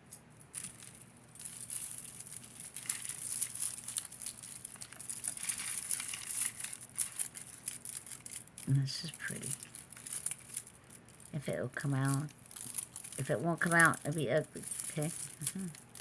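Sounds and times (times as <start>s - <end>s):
packaging crinkling and rustling: 0.4s - 16.0s.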